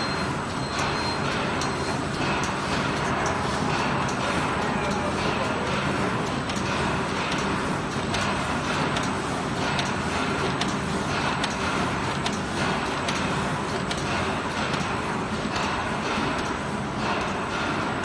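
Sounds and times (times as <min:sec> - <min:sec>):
paper cutting machine running: 0:00.0 - 0:18.0.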